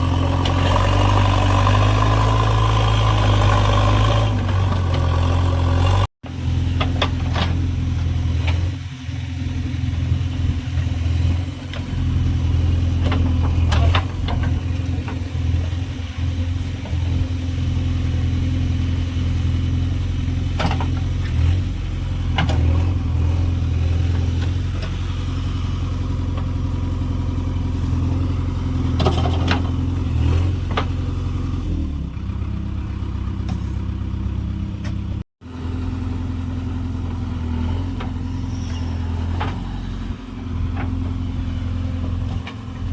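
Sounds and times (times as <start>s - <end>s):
diesel engine humming: 0.0s - 42.9s.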